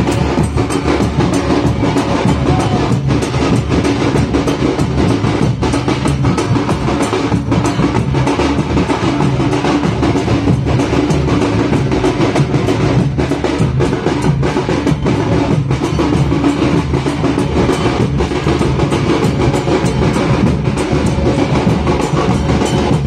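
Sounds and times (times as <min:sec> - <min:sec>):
drums playing loudly: 0:00.0 - 0:23.0.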